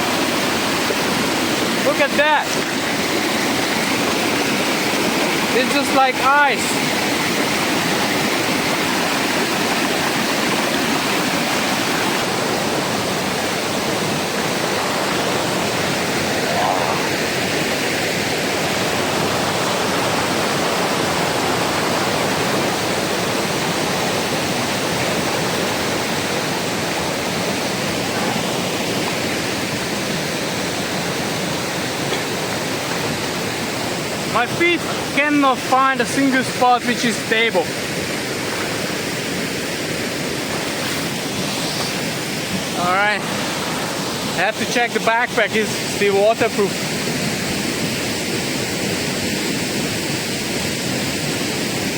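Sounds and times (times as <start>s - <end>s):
river water rushing over rocks: 0.0s - 51.9s.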